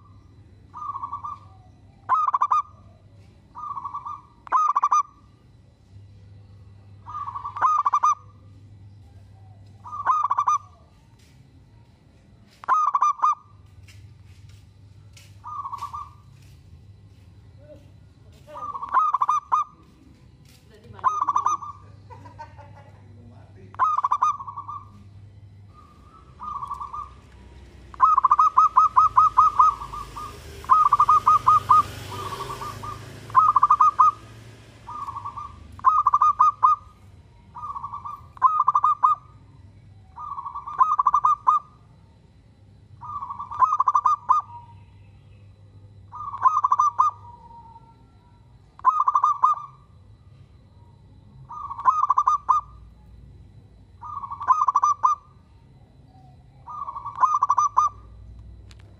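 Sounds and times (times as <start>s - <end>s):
dove cooing: 0.0s - 5.4s, 7.0s - 11.1s, 12.6s - 13.6s, 15.4s - 16.5s, 17.7s - 42.0s, 43.0s - 45.0s, 46.0s - 50.0s, 51.4s - 53.1s, 53.9s - 58.3s.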